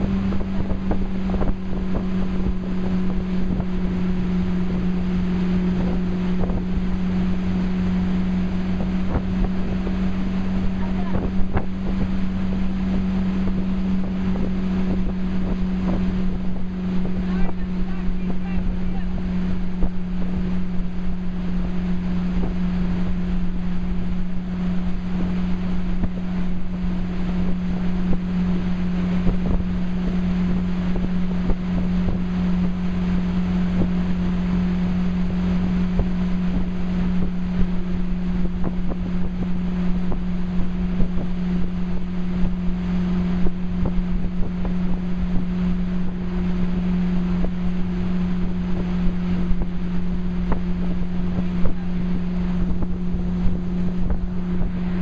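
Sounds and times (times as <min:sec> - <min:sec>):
boat engine humming: 0:00.0 - 0:55.0
rushing wake and spray: 0:00.0 - 0:55.0
wind buffeting microphone: 0:00.0 - 0:55.0.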